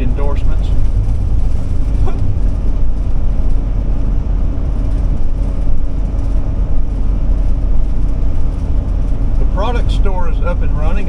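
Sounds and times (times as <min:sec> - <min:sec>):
motorhome road and engine rumble: 0:00.0 - 0:11.0.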